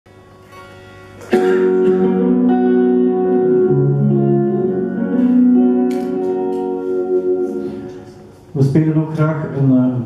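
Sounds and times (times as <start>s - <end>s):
clean electric guitars playing: 0.1s - 9.6s.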